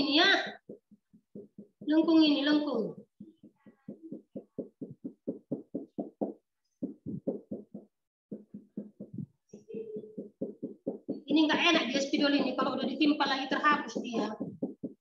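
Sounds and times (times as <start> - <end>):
marker scratching on whiteboard: 0.4 - 15.0.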